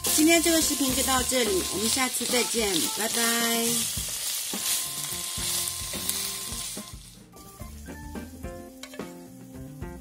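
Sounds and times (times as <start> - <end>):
spatula stirring in wok: 0.0 - 9.0
food sizzling in a wok: 0.0 - 10.0
light background music: 0.0 - 10.0.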